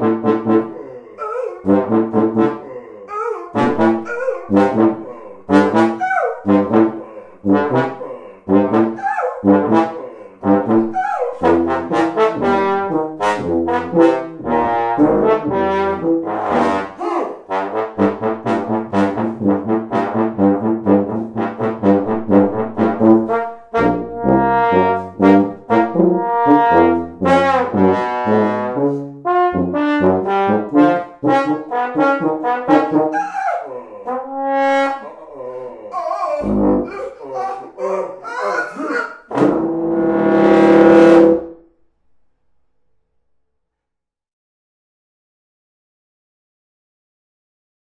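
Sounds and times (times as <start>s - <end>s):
tuba and trombone duet: 0.0s - 1.0s, 1.6s - 2.8s, 3.5s - 35.7s, 36.3s - 41.6s.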